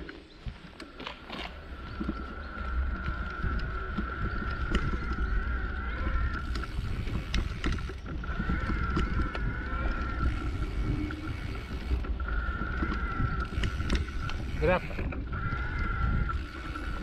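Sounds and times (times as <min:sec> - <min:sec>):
bike tyres rumbling on dirt: 0:00.0 - 0:17.0
wind buffeting microphone: 0:00.2 - 0:17.0
bike rattling and knocking: 0:00.5 - 0:17.0.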